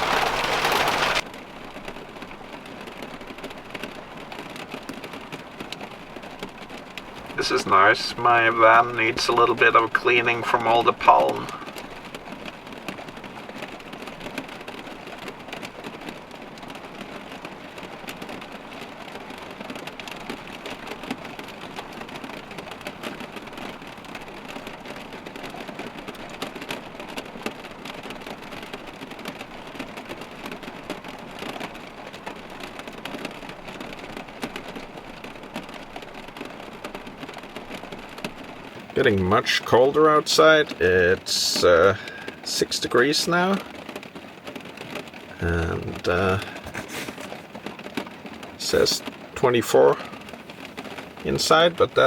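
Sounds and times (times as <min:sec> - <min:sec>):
rain with hail: 0:00.0 - 0:52.0.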